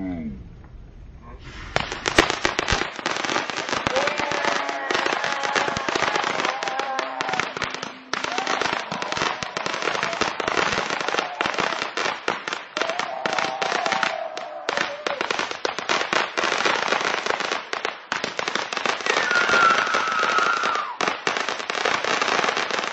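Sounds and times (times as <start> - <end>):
fireworks crackling and hissing: 1.3 - 22.9.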